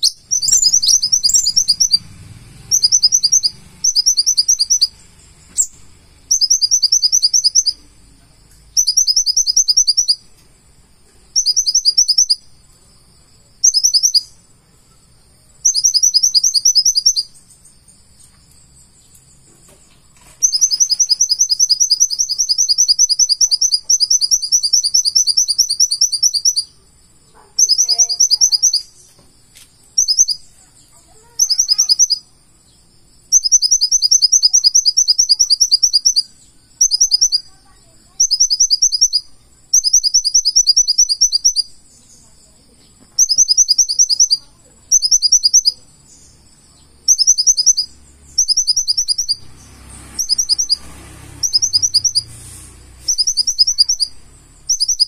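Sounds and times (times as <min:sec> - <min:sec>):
sunbird ticking trills: 0:00.0 - 0:55.0.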